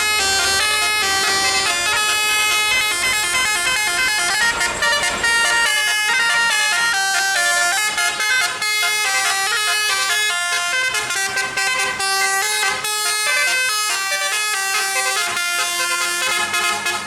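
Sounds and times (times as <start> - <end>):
bus musical air horns: 0.0 - 17.0.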